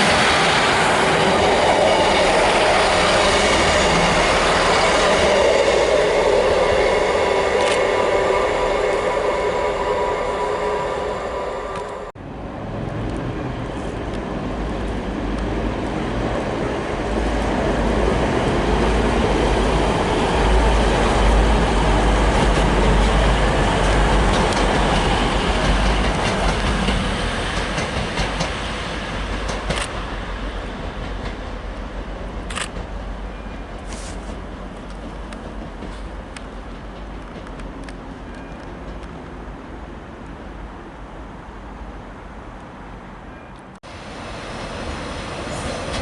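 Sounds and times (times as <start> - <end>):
train wheels rumbling on rails: 0.0 - 40.7, 43.6 - 46.0.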